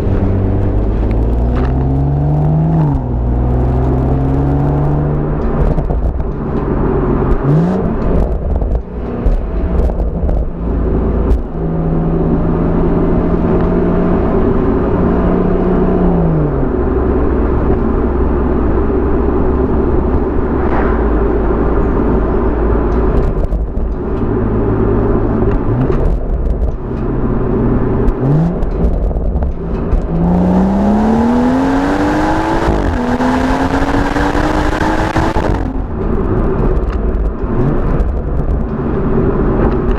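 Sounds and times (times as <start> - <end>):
car exhaust revving: 0.0 - 39.9
road and wind rumble: 0.0 - 39.9.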